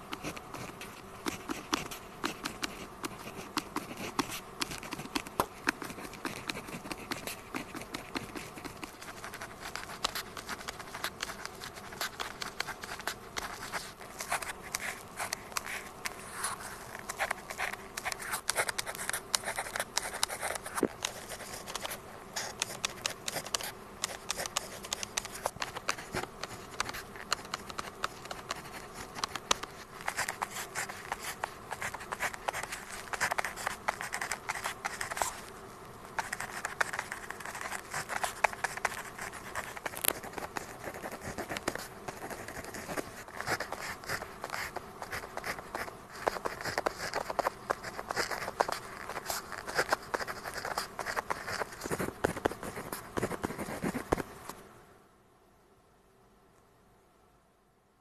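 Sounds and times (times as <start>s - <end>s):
pen scratching on paper: 0.0s - 54.3s.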